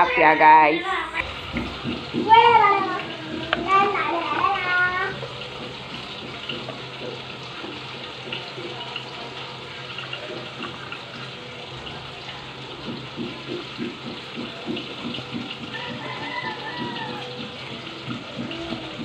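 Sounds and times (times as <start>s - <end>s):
water running from tap: 0.0s - 19.0s.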